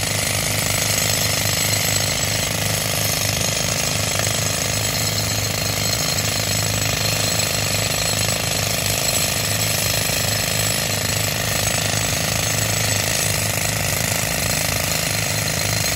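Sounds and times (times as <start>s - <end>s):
pneumatic rock drill hammering: 0.0s - 15.9s.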